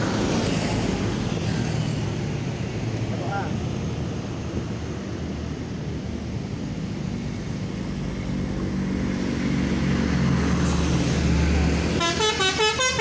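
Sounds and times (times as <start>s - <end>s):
bus engine running: 0.0s - 13.0s
road rumble: 0.0s - 13.0s.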